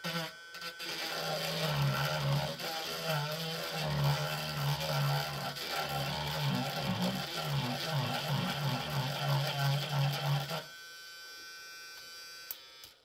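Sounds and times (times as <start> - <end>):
electric nail file buzzing: 0.0 - 13.0.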